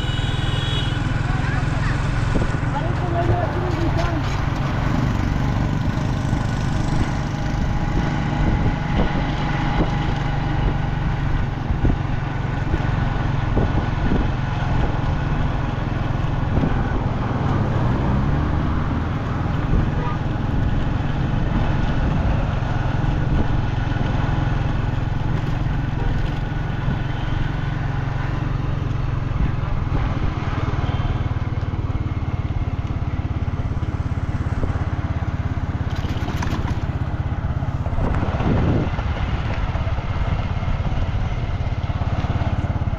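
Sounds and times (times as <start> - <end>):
road noise: 0.0 - 42.9
vehicle engine running: 0.0 - 42.9.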